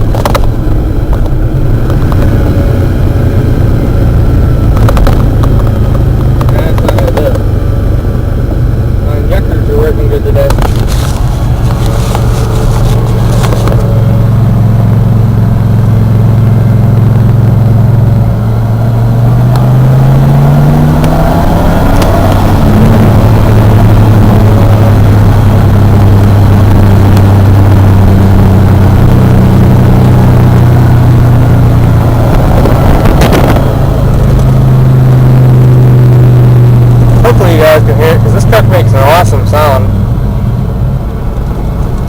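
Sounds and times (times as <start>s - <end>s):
sharp crackle: 0.0s - 8.9s, 9.7s - 18.5s, 19.1s - 37.4s
truck engine running loud: 0.0s - 42.0s.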